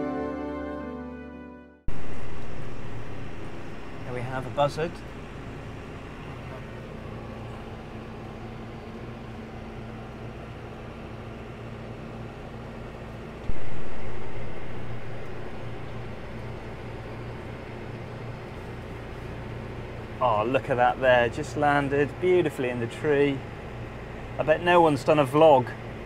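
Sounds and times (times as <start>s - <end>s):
tractor engine drone: 1.9s - 26.0s.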